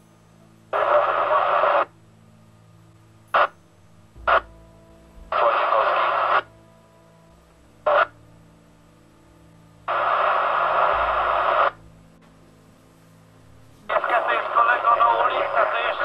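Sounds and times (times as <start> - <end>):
radio static hiss: 0.6 - 2.2, 3.3 - 3.6, 4.2 - 16.0.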